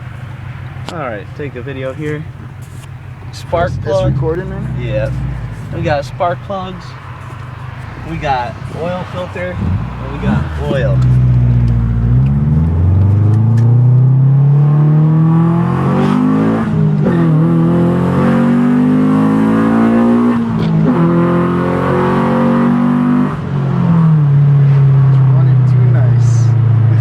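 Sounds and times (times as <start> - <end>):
car engine accelerating hard: 0.0 - 27.0.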